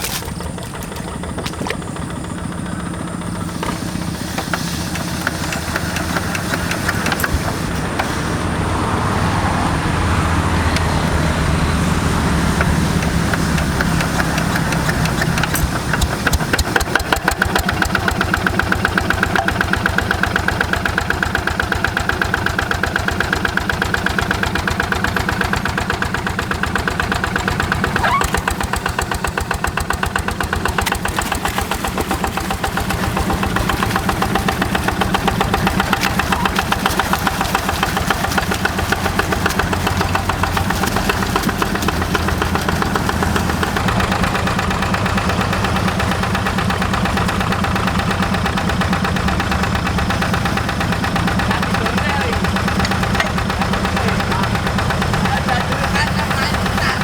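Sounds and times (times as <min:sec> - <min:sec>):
diesel engine puttering: 0:00.0 - 0:57.0.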